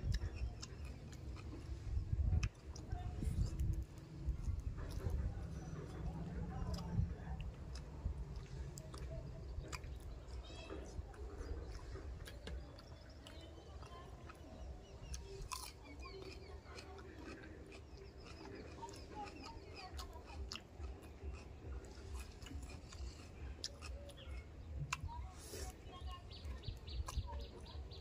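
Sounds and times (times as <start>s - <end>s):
close-up wet chewing: 0.0s - 28.0s.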